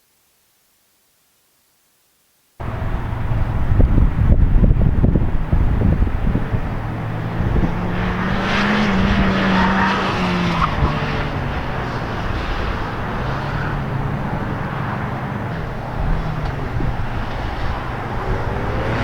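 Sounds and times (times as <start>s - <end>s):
car engine revving: 2.6s - 19.0s
tires squealing: 2.6s - 19.0s.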